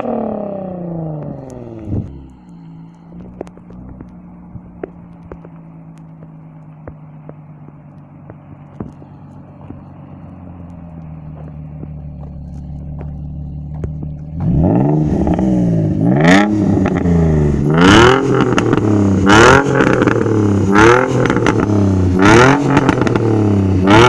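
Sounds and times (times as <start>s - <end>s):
car engine idling: 0.0s - 24.0s
exhaust pops and crackles: 0.0s - 24.0s.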